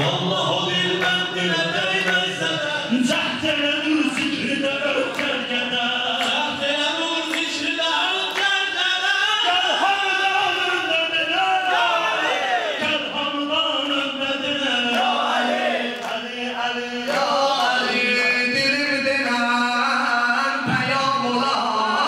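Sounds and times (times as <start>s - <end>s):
men singing mourning chant: 0.0s - 22.0s.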